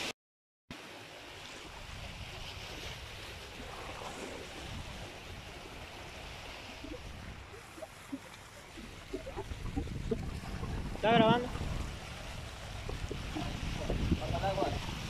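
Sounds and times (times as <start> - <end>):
surf washing against rocky shore: 0.8 - 15.0
wind rumble on microphone: 1.4 - 15.0.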